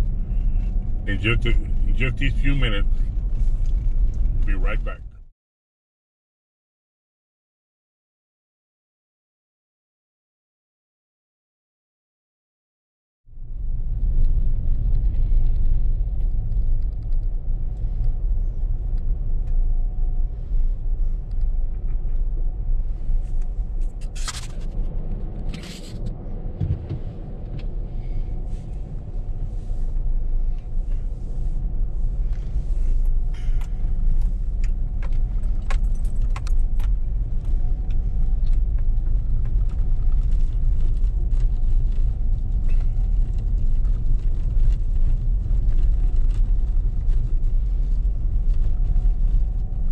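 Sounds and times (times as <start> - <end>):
car engine and road rumble: 0.0 - 5.3, 13.3 - 49.9.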